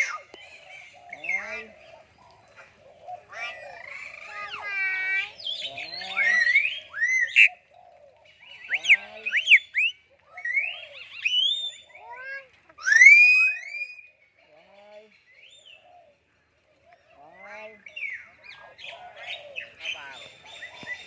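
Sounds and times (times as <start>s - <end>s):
myna birds calling: 0.0s - 21.0s.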